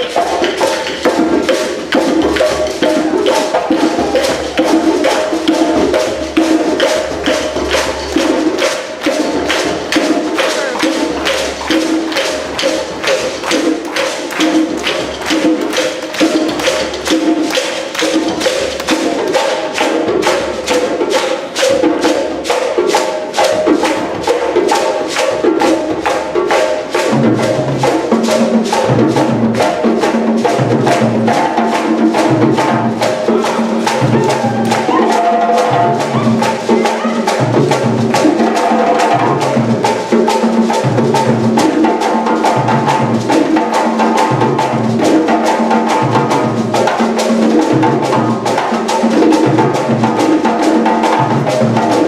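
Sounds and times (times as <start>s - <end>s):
hand drums playing fast rhythm: 0.0s - 52.0s.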